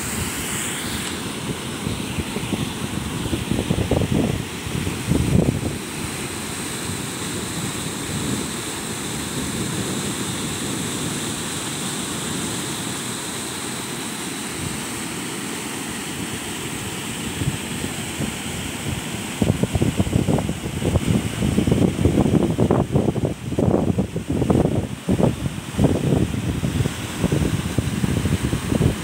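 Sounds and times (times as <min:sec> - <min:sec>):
wind gusts on microphone: 0:00.0 - 0:13.0, 0:16.2 - 0:29.0
waterfall rushing: 0:00.0 - 0:29.0.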